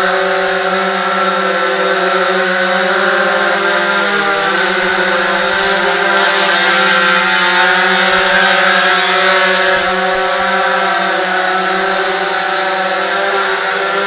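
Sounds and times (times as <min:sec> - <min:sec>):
quadcopter propellers buzzing: 0:00.0 - 0:14.0.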